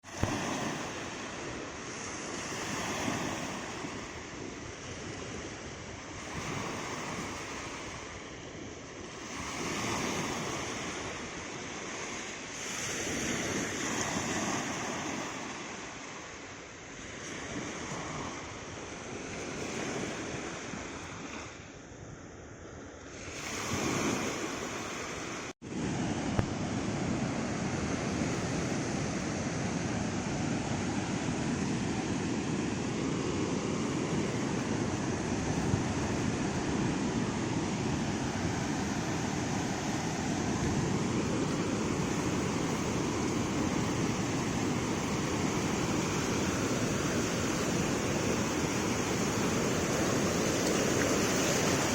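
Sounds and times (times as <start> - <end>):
ocean waves breaking on beach: 0.0 - 51.9
wind: 0.0 - 51.9.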